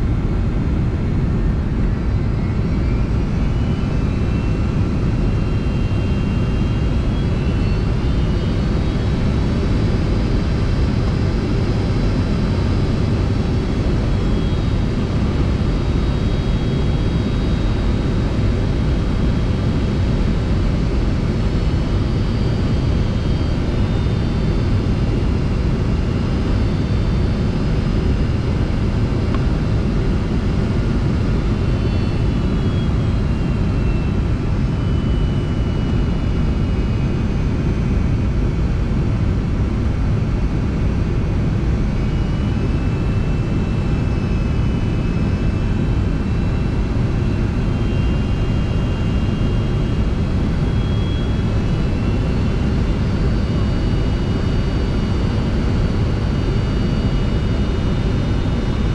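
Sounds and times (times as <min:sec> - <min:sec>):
jet engine rumble and rushing air: 0:00.0 - 0:58.9
faint high whining tones: 0:00.1 - 0:38.6, 0:39.2 - 0:58.9.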